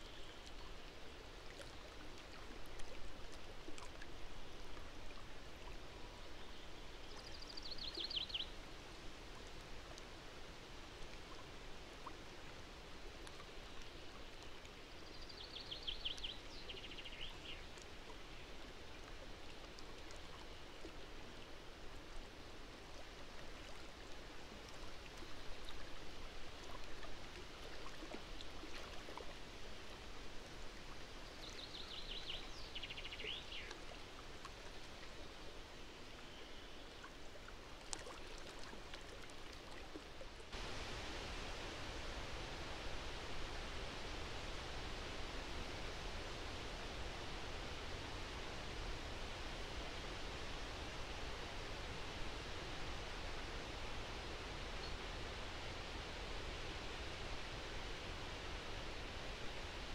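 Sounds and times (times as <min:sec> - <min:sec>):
outdoor background hiss: 0:00.0 - 0:59.9.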